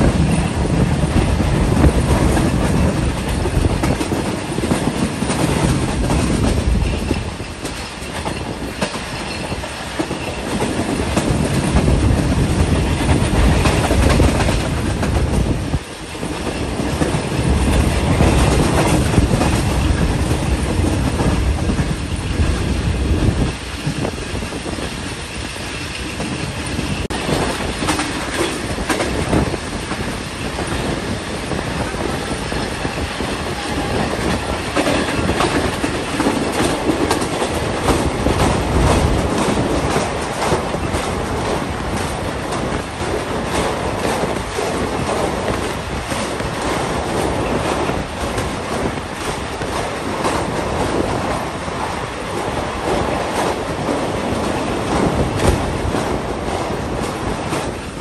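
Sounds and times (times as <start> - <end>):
train running noise: 0.0 - 58.0
wheels clacking over rail joints: 0.0 - 58.0.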